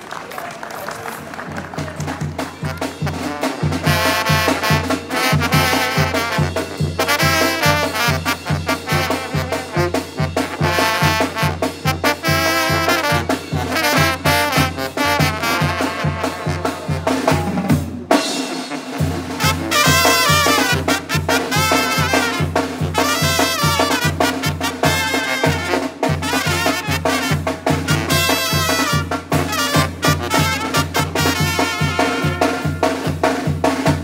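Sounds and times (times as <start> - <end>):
brass band playing: 1.0 - 34.0.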